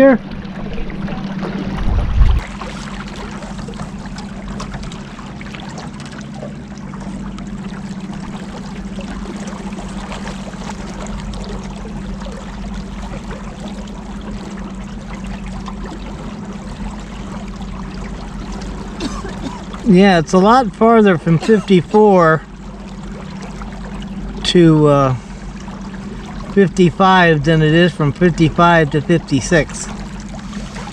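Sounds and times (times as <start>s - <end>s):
motorboat engine drone: 0.0s - 30.9s
water splashing along hull: 0.0s - 30.9s.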